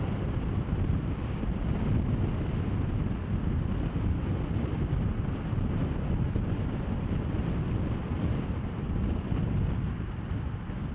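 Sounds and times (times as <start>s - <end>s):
engine and road noise: 0.0s - 10.9s
wind buffeting microphone: 0.0s - 10.9s.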